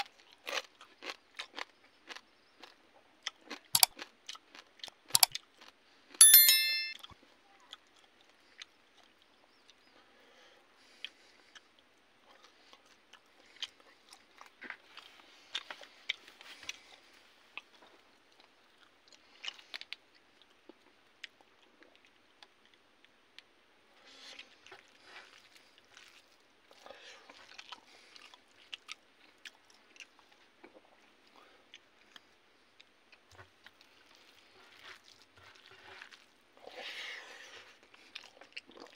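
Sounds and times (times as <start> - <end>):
chewing and crunching: 0.0 - 6.1, 7.5 - 9.9, 10.8 - 38.9.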